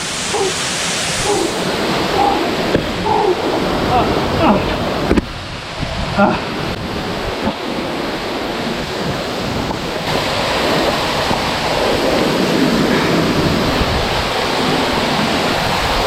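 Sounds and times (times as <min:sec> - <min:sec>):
waterfall rushing: 0:00.0 - 0:16.0
wind buffeting microphone: 0:00.0 - 0:16.0.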